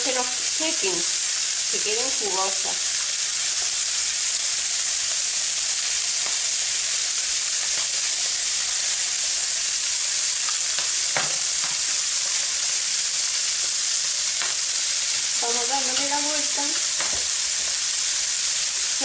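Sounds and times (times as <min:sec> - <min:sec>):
prawns sizzling in oil: 0:00.0 - 0:19.0.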